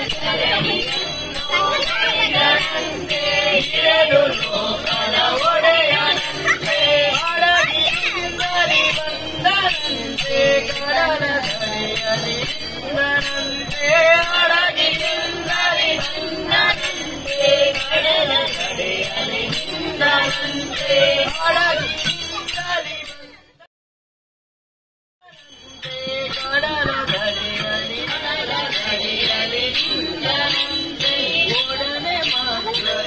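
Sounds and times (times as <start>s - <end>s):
group devotional singing: 0.0s - 23.3s, 25.8s - 33.0s
hand cymbals striking: 0.0s - 23.4s, 25.3s - 33.0s.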